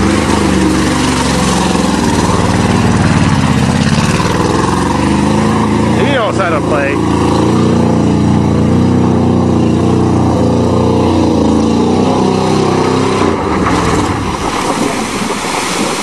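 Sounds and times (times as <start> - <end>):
pickup truck engine running hard: 0.0 - 16.0.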